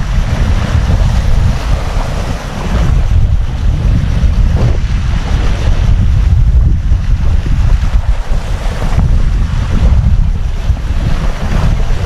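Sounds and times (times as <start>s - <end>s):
sea waves washing: 0.0s - 12.0s
wind buffeting microphone: 0.0s - 12.0s.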